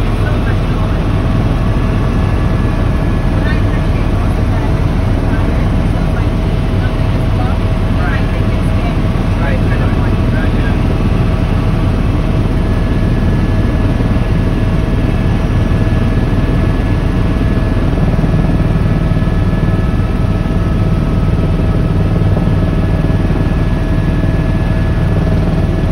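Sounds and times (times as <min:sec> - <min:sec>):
helicopter engine and rotor drone: 0:00.0 - 0:25.9
thin steady whining tones: 0:00.0 - 0:25.9.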